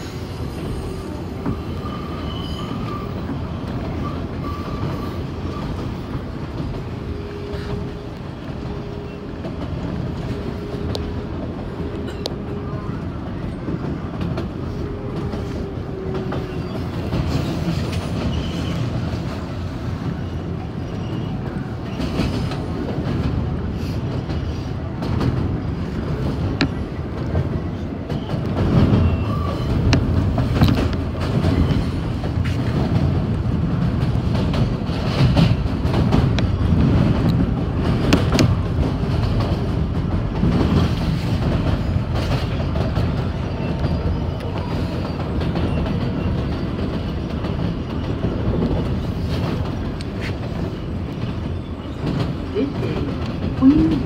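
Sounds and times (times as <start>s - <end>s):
train wheels rumbling on rails: 0.0s - 54.0s
wheels clicking over rail joints: 2.7s - 54.0s.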